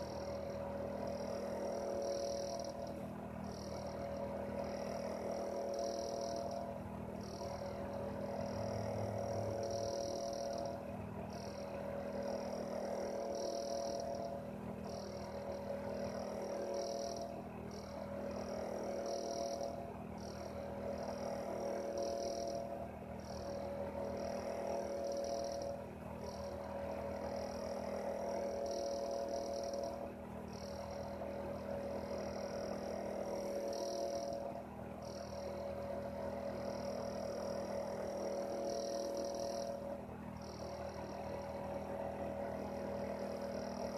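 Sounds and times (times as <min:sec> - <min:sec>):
heater humming: 0:00.0 - 0:43.9.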